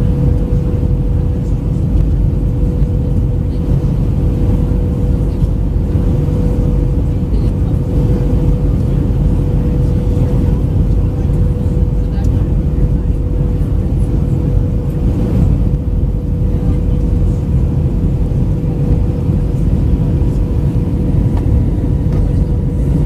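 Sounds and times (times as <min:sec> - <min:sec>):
aircraft engine drone: 0:00.0 - 0:23.0
airflow rush: 0:00.0 - 0:23.0
steady whine: 0:00.0 - 0:23.0.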